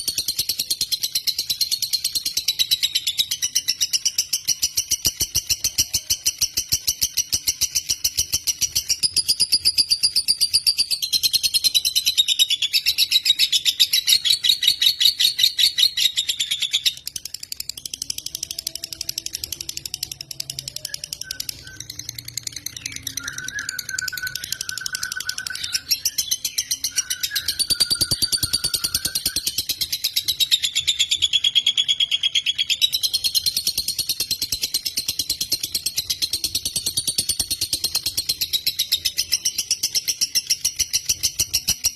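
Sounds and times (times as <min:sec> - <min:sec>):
bird singing rattling trill: 0:00.0 - 0:41.9.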